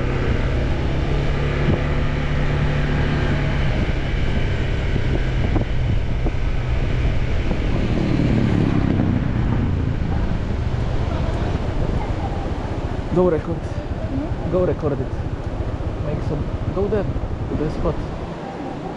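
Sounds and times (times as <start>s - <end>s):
low rumble: 0.0s - 18.9s
road noise: 0.0s - 18.9s
wind noise: 0.0s - 18.9s.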